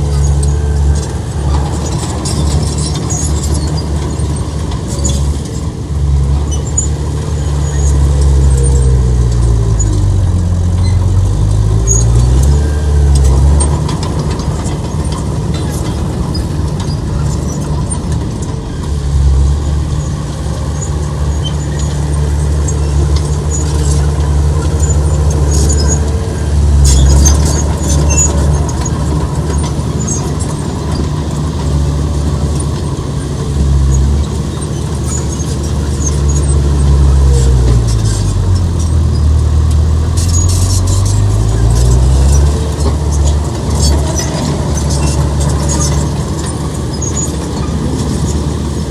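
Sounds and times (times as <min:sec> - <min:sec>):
high clicks and squeaks: 0:00.0 - 0:05.7, 0:11.8 - 0:48.9
heavy diesel engine running: 0:00.0 - 0:48.9.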